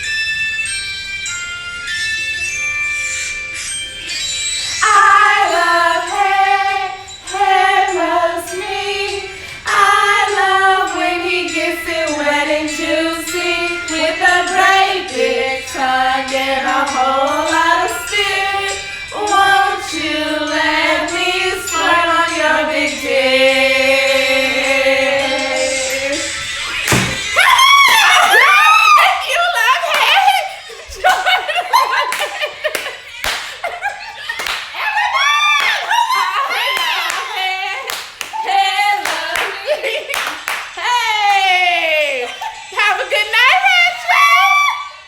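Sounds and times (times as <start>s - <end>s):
light backing music: 0.0s - 45.0s.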